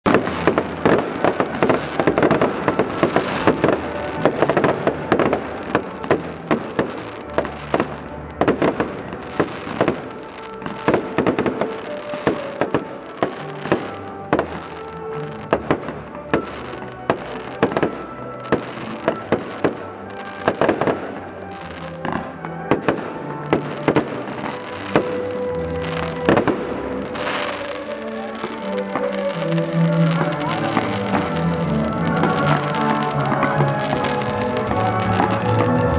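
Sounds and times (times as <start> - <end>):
fireworks bangs and crackles: 0.0 - 35.9
music: 0.1 - 35.9.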